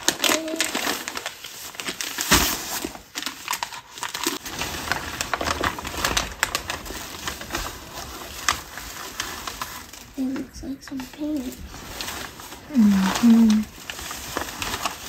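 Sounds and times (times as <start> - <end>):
paper tearing and crinkling: 0.0 - 15.0.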